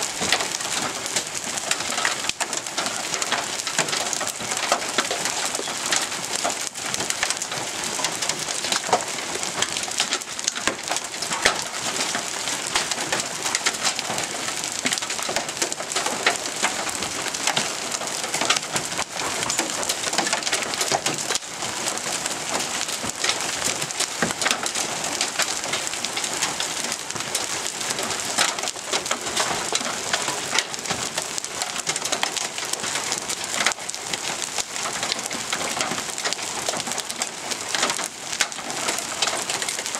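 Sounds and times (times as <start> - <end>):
hail and rain clattering: 0.0 - 39.9.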